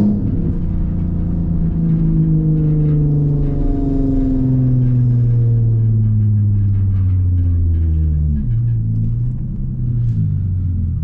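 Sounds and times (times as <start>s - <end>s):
car engine and exhaust: 0.0s - 11.0s.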